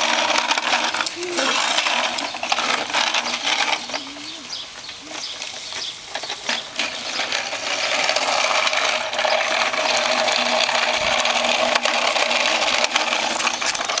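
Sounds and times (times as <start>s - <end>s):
toy truck wheels rolling on concrete: 0.0s - 14.0s.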